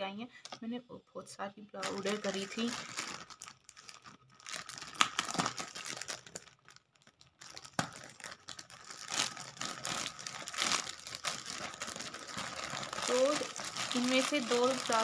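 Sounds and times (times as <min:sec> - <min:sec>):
plastic bag crinkling and tearing: 0:01.8 - 0:15.0.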